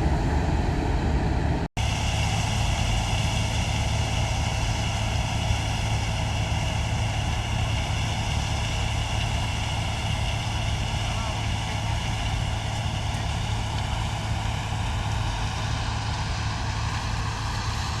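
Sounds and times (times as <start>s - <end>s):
combine harvester engine hum: 0.0s - 18.0s.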